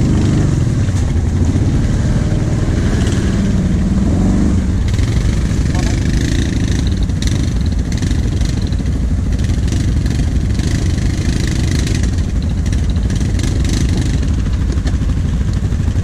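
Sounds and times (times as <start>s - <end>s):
quad bike engines idling: 0.0s - 16.0s.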